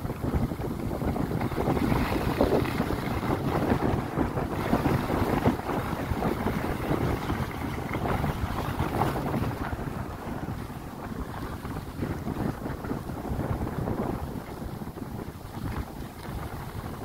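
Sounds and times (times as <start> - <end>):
skis scraping over snow: 0.0 - 17.0
wind rushing over microphone: 0.0 - 17.0.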